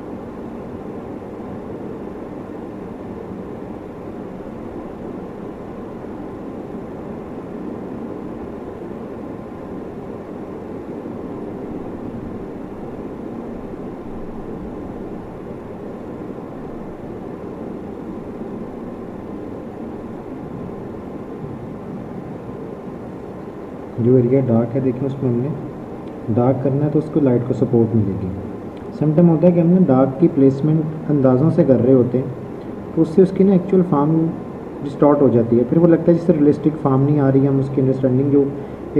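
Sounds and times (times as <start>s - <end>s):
steady low background noise: 0.0s - 38.9s.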